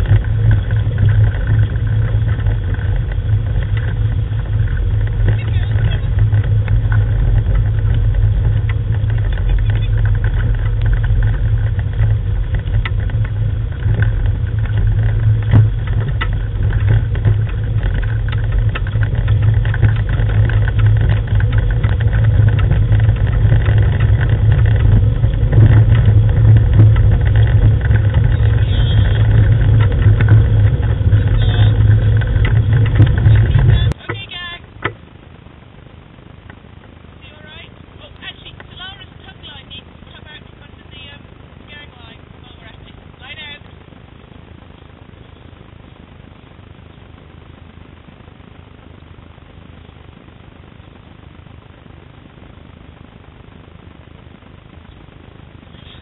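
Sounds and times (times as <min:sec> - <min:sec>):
wheeled rig rolling on gravel: 0:00.0 - 0:35.2, 0:36.4 - 0:56.0
wheels crunching on stones: 0:00.0 - 0:56.0.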